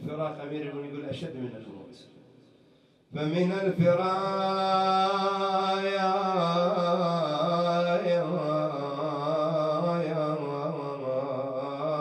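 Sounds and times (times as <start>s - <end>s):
man chanting into microphone: 0.0s - 2.1s, 3.1s - 12.0s.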